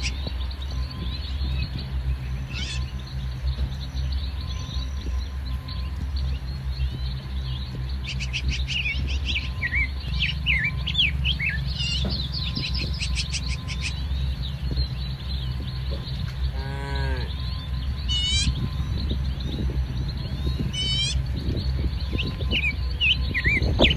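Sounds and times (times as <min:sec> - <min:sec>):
small birds twittering: 0:00.0 - 0:23.9
steady low rumble: 0:00.0 - 0:23.9.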